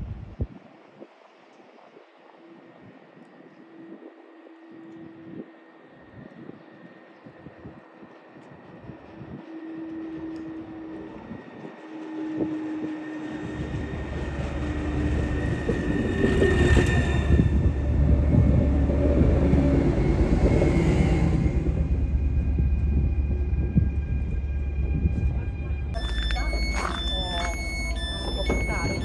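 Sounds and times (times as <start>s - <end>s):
train passing with deep rumble: 2.4s - 29.0s
train wheel and running noise: 2.4s - 29.0s.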